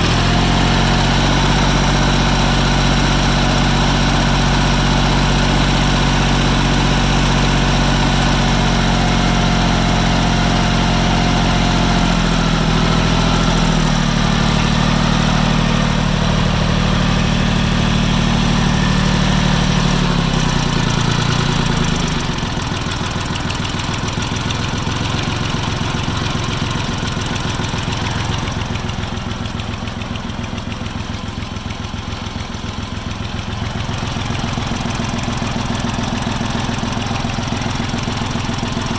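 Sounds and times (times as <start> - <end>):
diesel tractor engine idling: 0.0 - 38.9.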